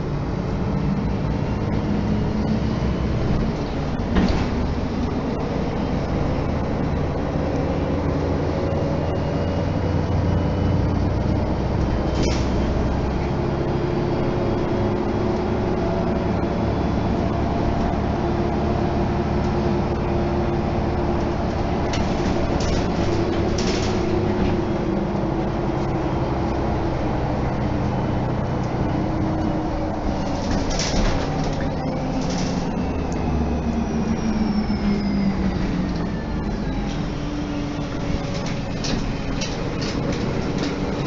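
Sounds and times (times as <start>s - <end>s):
bus engine drone: 0.0s - 41.0s
drivetrain whine: 0.0s - 41.0s.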